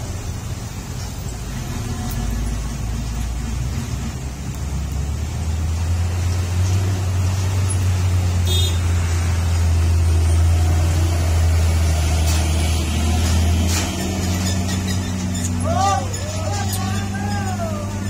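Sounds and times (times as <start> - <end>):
diesel truck engine labouring: 0.0 - 18.0.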